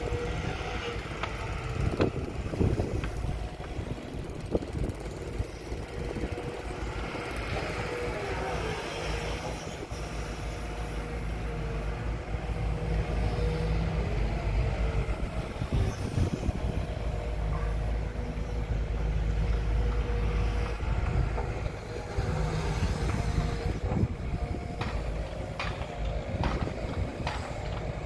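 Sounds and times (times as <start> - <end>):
excavator diesel engine rumble: 0.0 - 28.0.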